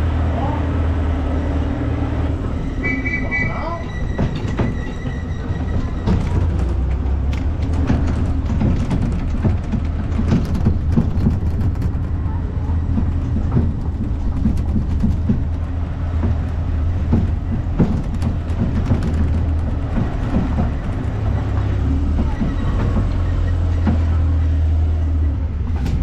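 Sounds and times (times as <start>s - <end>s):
train rumbling: 0.0s - 26.0s
train wheels clicking and knocking: 1.4s - 26.0s.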